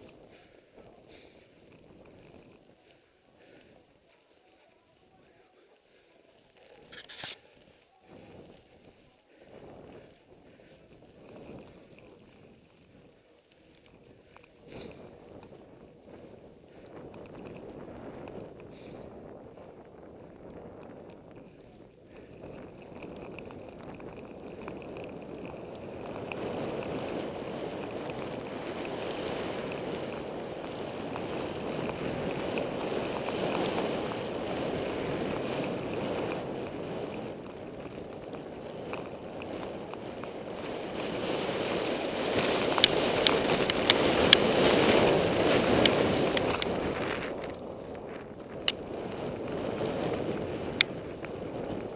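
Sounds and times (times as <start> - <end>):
wind rushing over camera: 0.0 - 4.1, 6.5 - 51.9.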